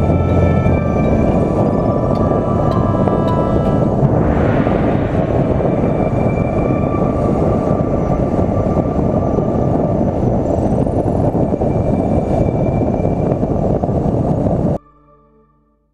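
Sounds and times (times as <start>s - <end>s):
car road rumble: 0.0s - 14.8s
wind buffeting microphone: 0.0s - 14.8s.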